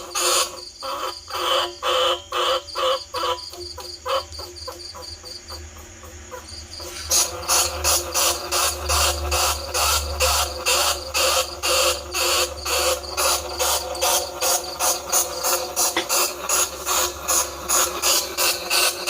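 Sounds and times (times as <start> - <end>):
rat squeaks: 0.0 - 19.0
steady low hum: 3.0 - 19.0.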